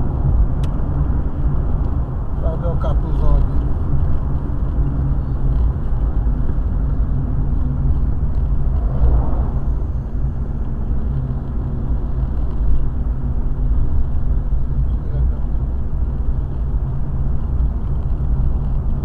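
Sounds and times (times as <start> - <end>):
car cabin engine and tyre noise: 0.0 - 19.0.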